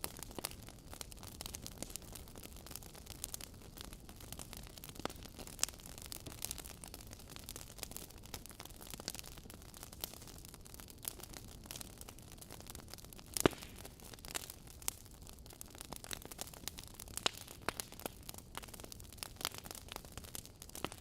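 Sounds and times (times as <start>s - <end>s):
logs crackling in fireplace: 0.0s - 21.0s.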